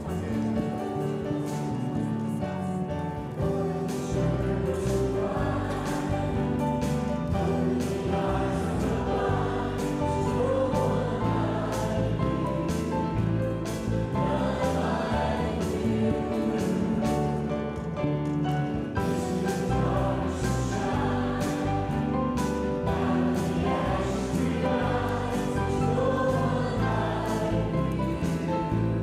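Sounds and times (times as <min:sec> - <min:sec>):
choir singing: 0:00.0 - 0:29.0
instrumental accompaniment: 0:00.0 - 0:29.0
lead singers on microphones: 0:03.4 - 0:17.8, 0:19.0 - 0:29.0.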